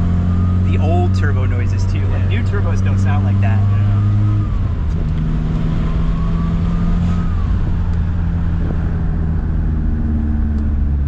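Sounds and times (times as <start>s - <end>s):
diesel car engine running: 0.0s - 11.0s.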